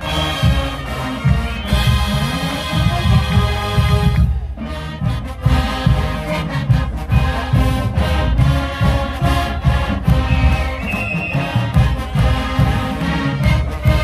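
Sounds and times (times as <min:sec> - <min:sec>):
brass chords: 0:00.0 - 0:14.0
marching drum beat: 0:00.0 - 0:14.0.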